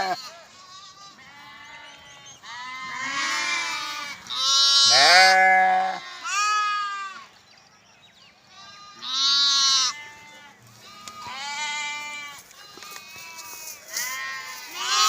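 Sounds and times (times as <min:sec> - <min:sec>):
sheep and lambs bleating: 0:00.0 - 0:07.3, 0:08.4 - 0:15.0.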